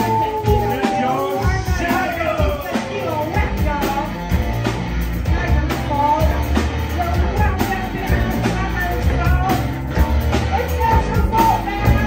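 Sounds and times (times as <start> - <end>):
drum kit beat: 0.0 - 12.0
electric bass: 0.0 - 12.0
electric guitars: 0.0 - 12.0.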